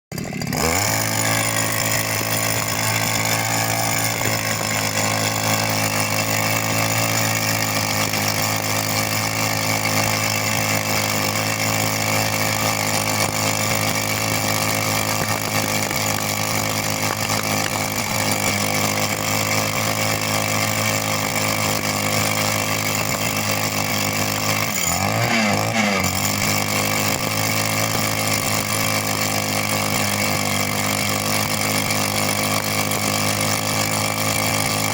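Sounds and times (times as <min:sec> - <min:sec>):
petrol rock drill running: 0:00.1 - 0:34.9.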